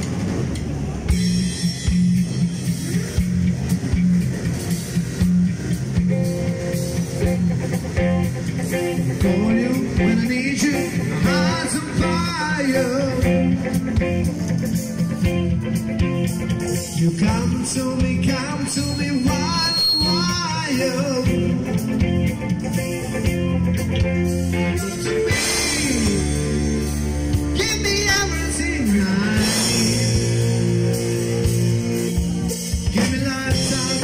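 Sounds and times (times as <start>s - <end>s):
bass guitar: 0.0s - 34.0s
drum kit: 0.0s - 34.0s
electric guitars: 0.0s - 34.0s
keyboards: 0.0s - 34.0s
wavering melody line: 6.2s - 34.0s.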